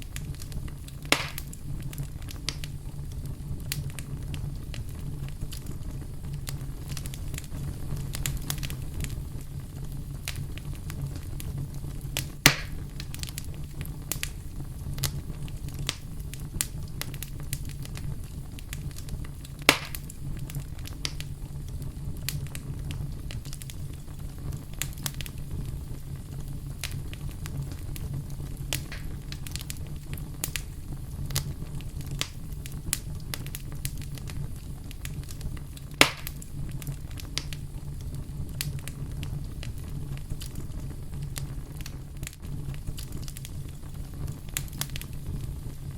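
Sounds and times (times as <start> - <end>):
campfire crackling: 0.0 - 45.9
sharp fire pops: 0.0 - 45.9.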